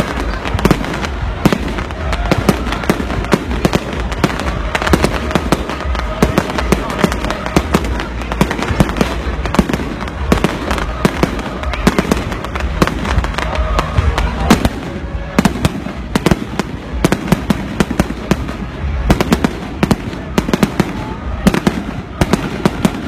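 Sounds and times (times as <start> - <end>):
fireworks bangs: 0.0 - 23.0
low rumble of explosions: 0.0 - 23.0.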